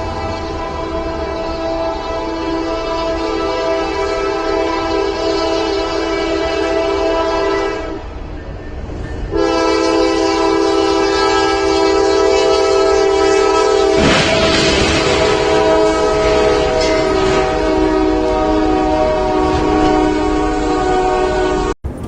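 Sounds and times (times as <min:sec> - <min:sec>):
train horn blasts: 0:00.0 - 0:08.1, 0:09.1 - 0:21.8.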